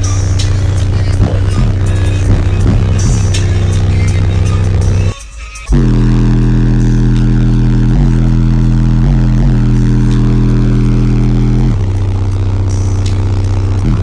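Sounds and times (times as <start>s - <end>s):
subwoofers playing loud bass note: 0.0s - 14.0s.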